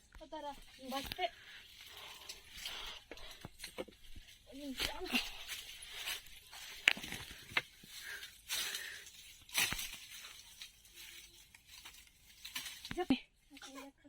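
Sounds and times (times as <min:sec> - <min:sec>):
footsteps crunching through dry leaves: 0:00.4 - 0:13.1
twigs snapping: 0:00.7 - 0:13.8.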